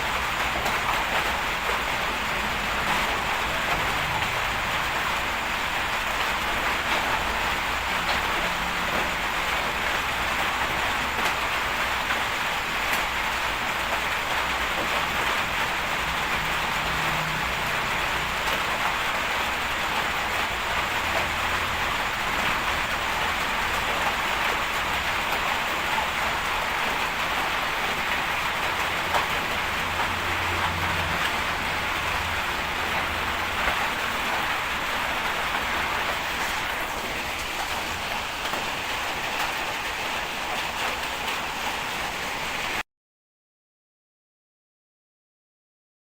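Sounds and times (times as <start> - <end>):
rain hissing on surfaces: 0.0 - 42.8.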